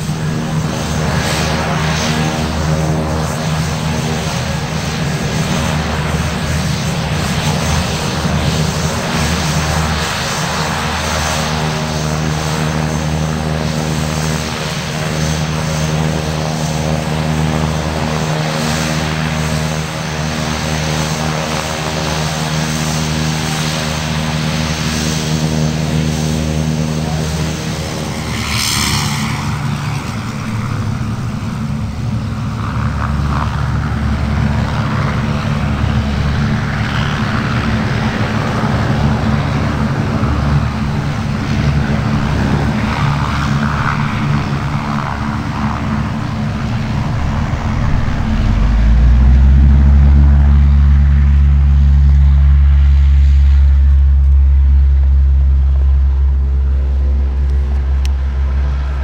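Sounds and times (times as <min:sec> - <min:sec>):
single-engine turboprop taxiing: 0:00.0 - 0:59.0
turboprop engines idling: 0:00.0 - 0:59.0.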